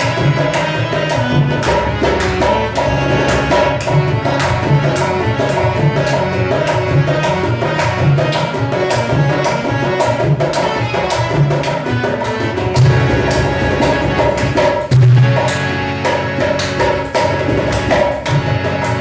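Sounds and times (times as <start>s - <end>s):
held melodic instrument tones: 0.0s - 16.4s
dholak drum rhythm: 0.0s - 19.0s.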